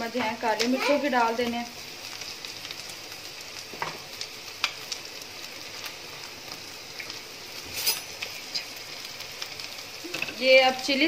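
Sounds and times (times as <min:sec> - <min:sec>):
food sizzling in oil: 0:00.0 - 0:11.0
oil crackles: 0:00.0 - 0:11.0.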